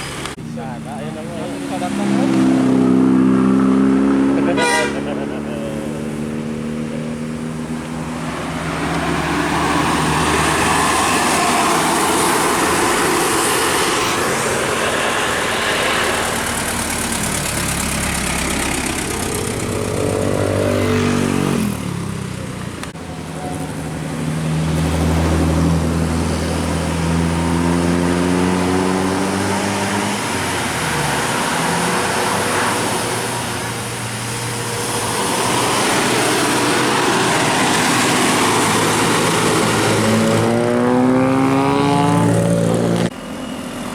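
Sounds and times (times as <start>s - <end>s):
buses and traffic passing: 0.0s - 43.9s.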